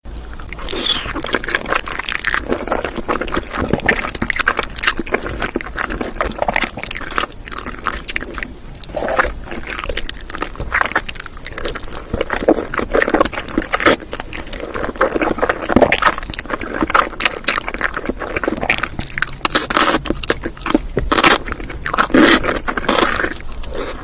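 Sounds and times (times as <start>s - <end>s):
wet chewing and mouth noises: 0.1s - 24.0s.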